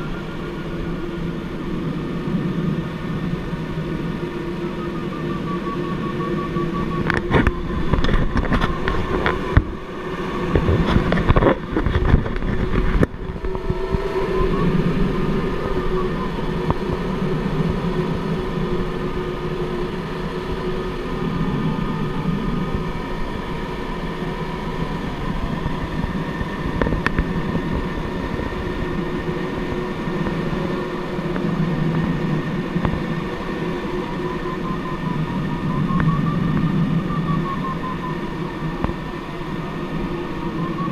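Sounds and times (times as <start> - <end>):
aircraft engine drone: 0.0 - 40.9
faint wavering tone: 0.0 - 40.9.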